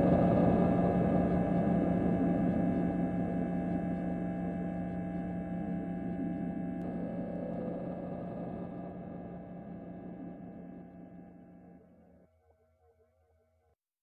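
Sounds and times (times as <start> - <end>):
eerie ambient drone: 0.0 - 12.5.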